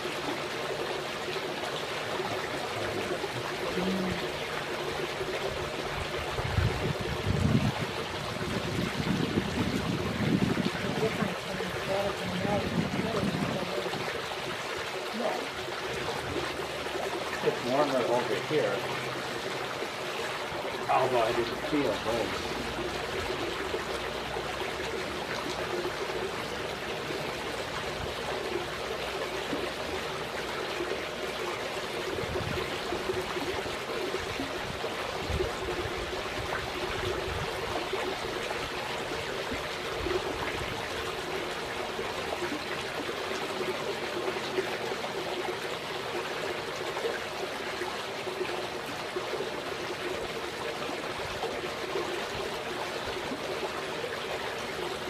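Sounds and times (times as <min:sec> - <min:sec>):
water running and trickling: 0:00.0 - 0:55.0.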